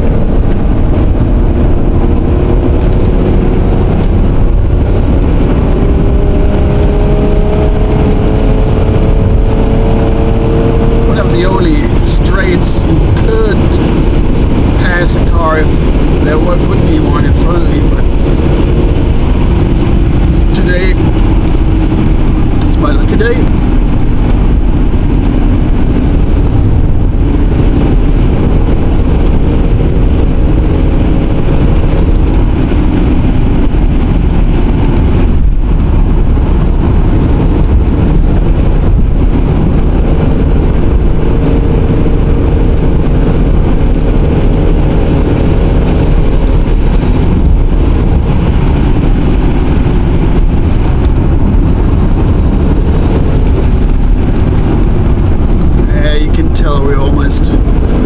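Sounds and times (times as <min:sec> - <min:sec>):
car engine and tyre rumble: 0:00.0 - 0:58.0
faint engine hum: 0:00.0 - 0:58.0.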